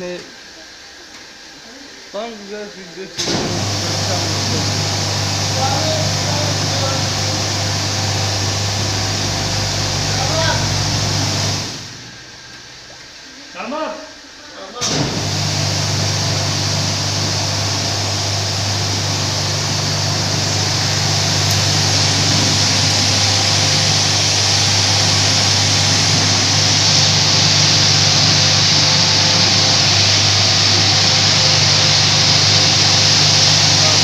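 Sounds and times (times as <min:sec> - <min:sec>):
carpet washing machine hissing: 0:00.0 - 0:13.8, 0:14.4 - 0:34.0.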